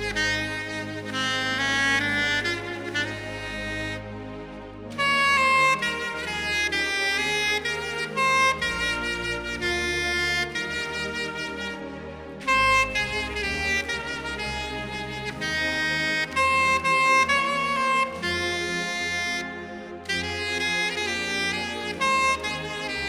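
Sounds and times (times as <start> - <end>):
soft low accompaniment: 0.0 - 23.0
soprano saxophone hymn melody: 0.0 - 23.0.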